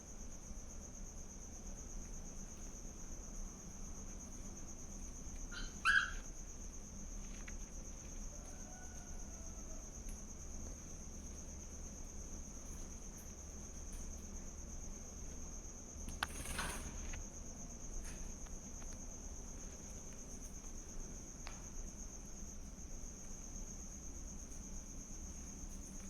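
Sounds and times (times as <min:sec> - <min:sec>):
cricket trilling: 0:00.0 - 0:26.0.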